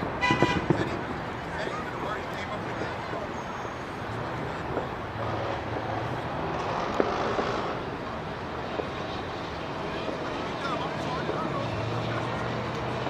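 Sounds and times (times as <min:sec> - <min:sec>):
fireworks popping: 0:00.0 - 0:13.0.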